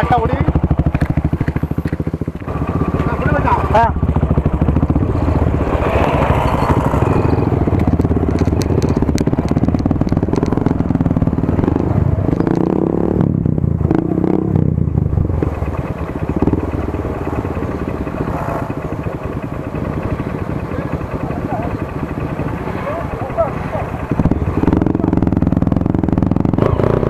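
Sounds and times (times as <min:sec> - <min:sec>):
motorcycle engine at low speed: 0:00.0 - 0:27.0.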